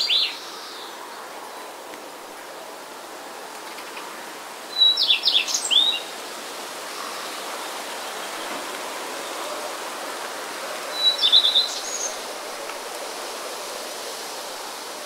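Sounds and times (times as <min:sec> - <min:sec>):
songbird singing: 0:00.0 - 0:02.8, 0:03.5 - 0:14.9
breeze hiss: 0:00.0 - 0:15.0.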